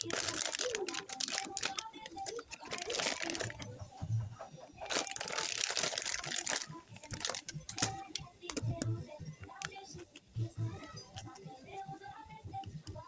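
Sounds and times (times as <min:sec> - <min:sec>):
crinkling and rustling: 0:00.0 - 0:11.5.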